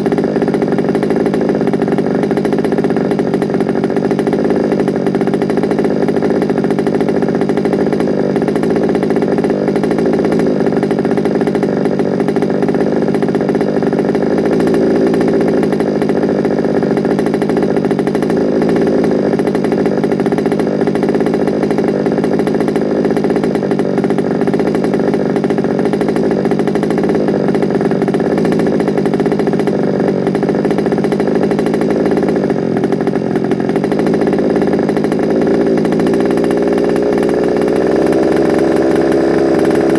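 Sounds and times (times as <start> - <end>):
small two-stroke engine running: 0.0 - 39.9.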